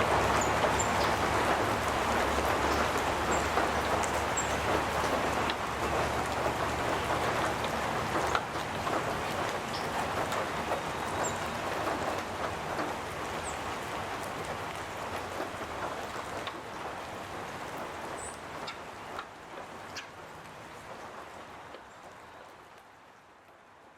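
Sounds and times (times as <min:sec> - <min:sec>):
rain pattering on metal roof: 0:00.0 - 0:23.9.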